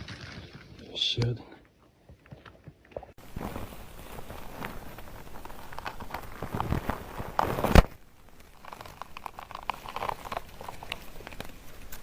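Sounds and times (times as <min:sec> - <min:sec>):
crackling and rustling: 0:00.0 - 0:01.3, 0:02.1 - 0:12.0.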